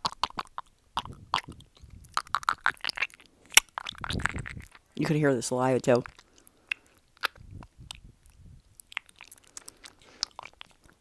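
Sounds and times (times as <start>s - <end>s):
dentures clicking: 0.0s - 4.9s, 6.0s - 11.0s
wet saliva sounds: 0.0s - 5.0s, 6.0s - 11.0s.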